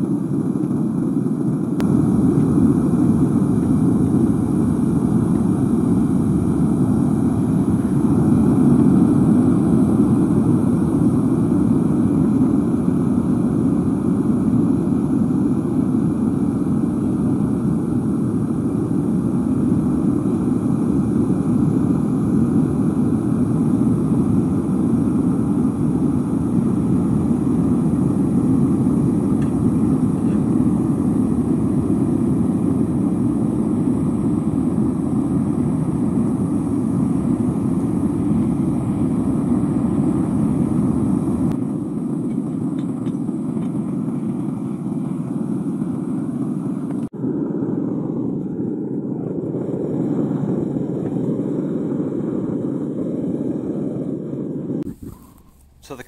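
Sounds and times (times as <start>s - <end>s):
furnace burner flame rushing: 0.0s - 56.0s.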